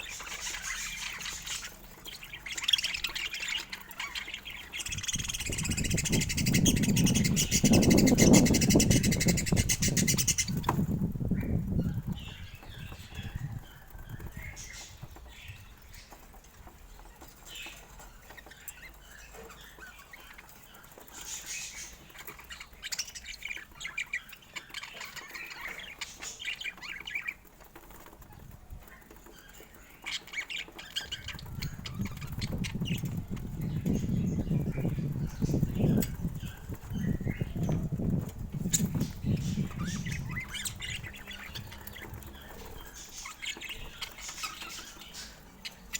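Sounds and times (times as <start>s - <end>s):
budgerigars chirping: 0.0s - 45.9s.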